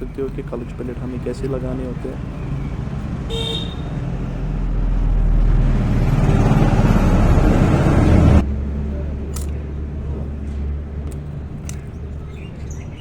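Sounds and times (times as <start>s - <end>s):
road traffic engine noise: 0.0s - 13.0s.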